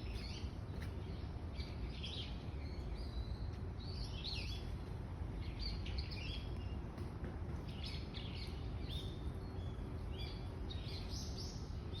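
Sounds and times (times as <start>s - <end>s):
small birds chirping: 0.0s - 7.0s, 7.6s - 12.0s.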